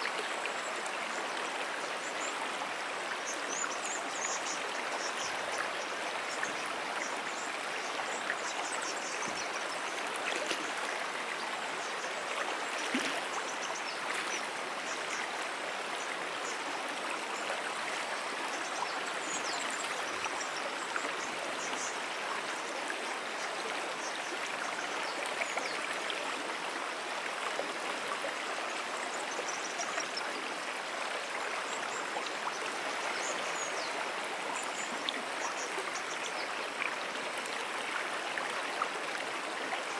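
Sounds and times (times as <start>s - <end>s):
brook rushing water: 0.0s - 39.9s.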